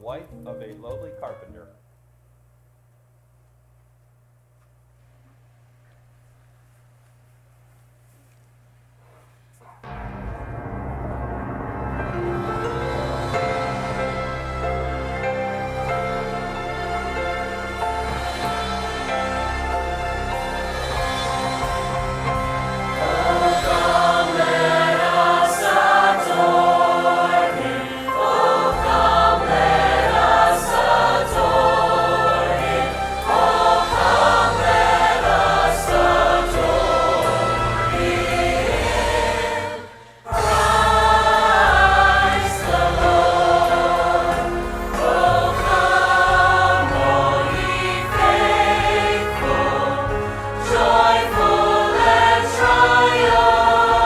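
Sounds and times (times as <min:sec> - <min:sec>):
choir singing with instruments: 0:09.8 - 0:54.0.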